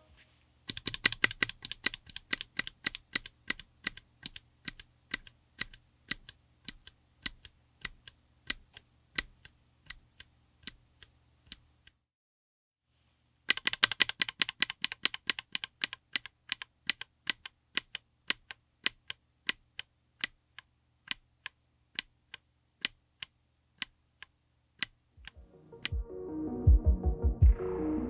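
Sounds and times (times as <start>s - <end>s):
mechanical keyboard typing: 0.7s - 11.9s, 13.5s - 26.0s.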